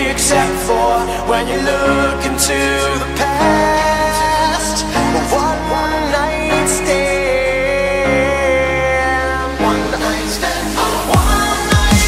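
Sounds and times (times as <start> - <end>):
held synth chords: 0.0 - 12.0.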